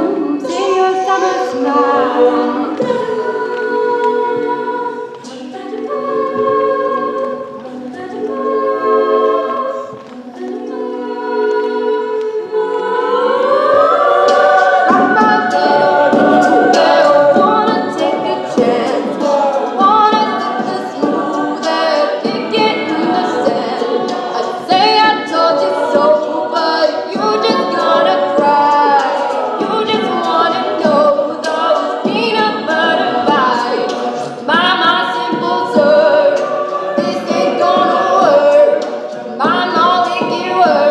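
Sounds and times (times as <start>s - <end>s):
a cappella group singing: 0.0s - 40.9s.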